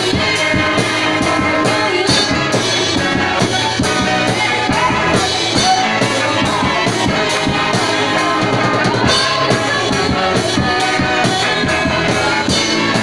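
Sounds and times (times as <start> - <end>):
bass guitar: 0.0 - 13.0
drum kit beat: 0.0 - 13.0
electric guitar: 0.0 - 13.0.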